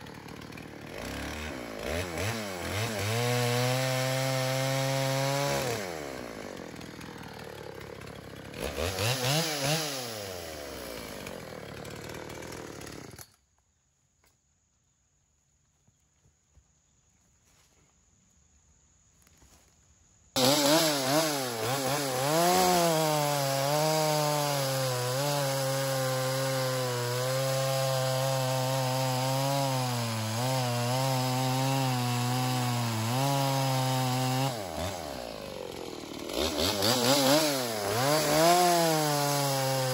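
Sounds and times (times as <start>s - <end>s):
chainsaw running and revving: 0.0s - 13.4s, 20.4s - 39.9s
chainsaw cutting wood: 0.0s - 13.6s, 20.4s - 39.9s.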